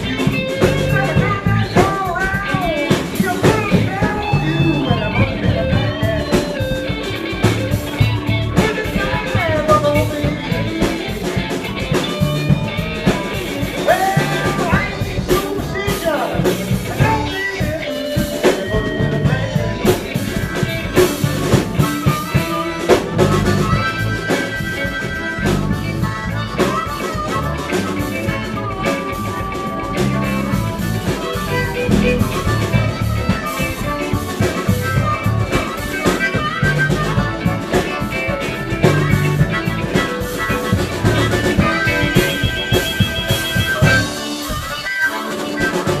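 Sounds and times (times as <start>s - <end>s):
blues band playing: 0.0s - 46.0s.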